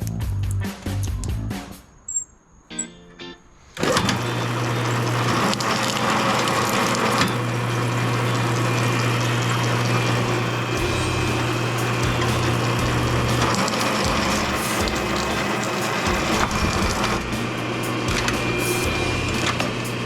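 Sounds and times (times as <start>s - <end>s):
machine humming and rushing: 3.8s - 20.0s.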